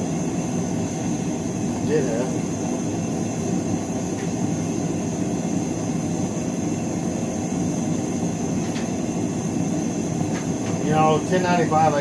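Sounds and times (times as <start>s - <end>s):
gas burner rushing: 0.0s - 12.0s.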